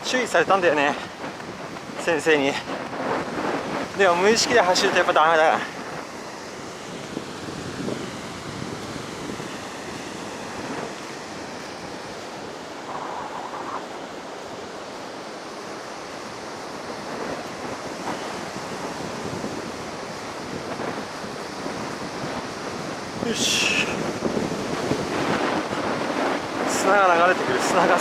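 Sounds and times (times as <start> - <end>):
waves breaking on beach: 0.0 - 28.0
wind blowing across microphone: 0.0 - 28.0.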